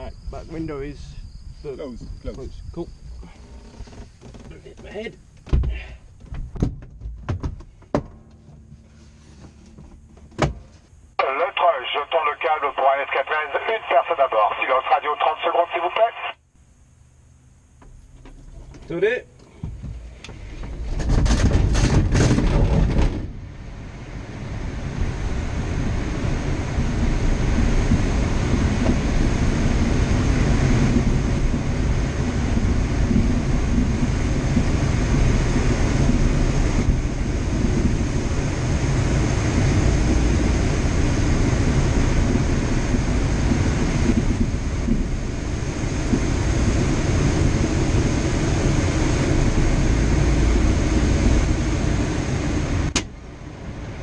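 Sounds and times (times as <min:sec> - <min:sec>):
wind rushing over cockpit: 0:00.0 - 0:16.3, 0:17.7 - 0:54.0.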